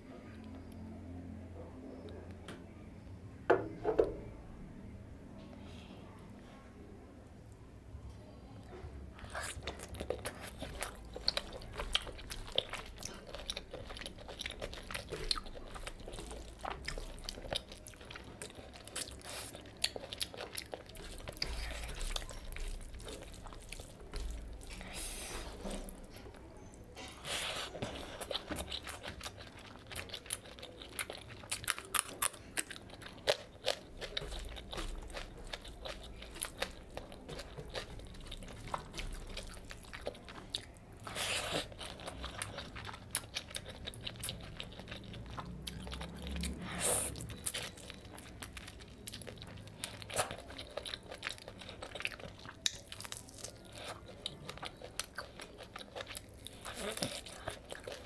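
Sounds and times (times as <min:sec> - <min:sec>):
wet chewing and smacking: 0:09.2 - 0:58.0.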